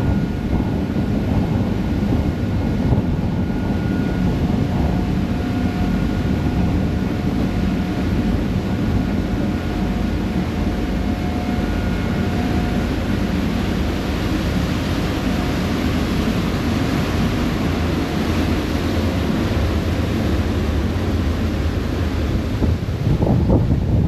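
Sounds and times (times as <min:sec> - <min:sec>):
ferry engine rumble: 0:00.0 - 0:24.0
water washing along hull: 0:00.0 - 0:24.0
wind buffeting microphone: 0:00.0 - 0:24.0.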